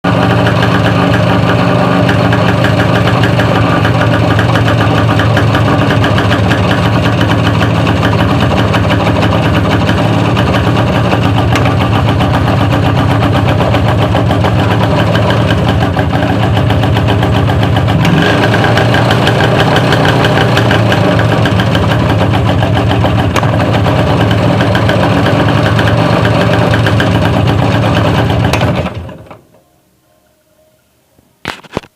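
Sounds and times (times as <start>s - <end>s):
two-stroke motorcycle engine running: 0.0s - 29.4s.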